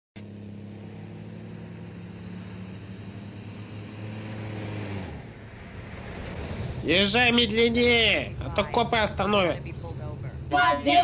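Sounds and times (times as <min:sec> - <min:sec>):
tyre and road noise: 0:00.2 - 0:11.0
vehicle engine hum: 0:00.2 - 0:11.0.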